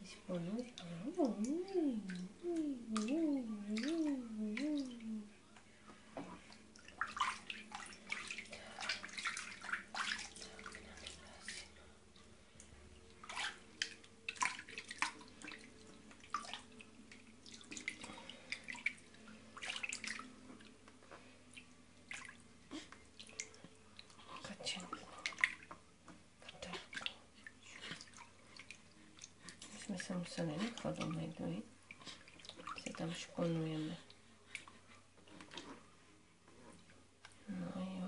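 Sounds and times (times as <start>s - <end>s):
water splashing and dripping: 0.3s - 5.2s, 6.4s - 20.8s, 21.5s - 25.8s, 26.4s - 33.7s.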